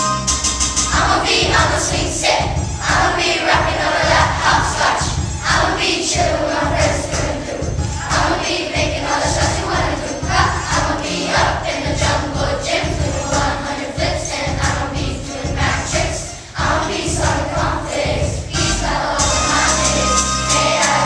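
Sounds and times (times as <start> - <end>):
backing music with low beat: 0.0 - 21.0
children singing: 0.8 - 21.0.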